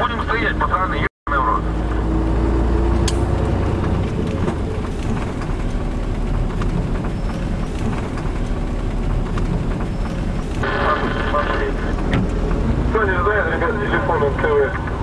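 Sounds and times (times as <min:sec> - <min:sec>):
truck engine rumble from cab: 0:00.0 - 0:15.0.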